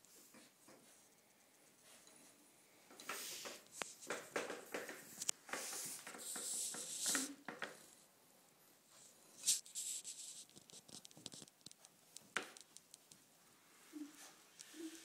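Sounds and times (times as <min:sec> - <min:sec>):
puppy claws on tiled floor: 0:00.0 - 0:08.0, 0:08.9 - 0:13.3.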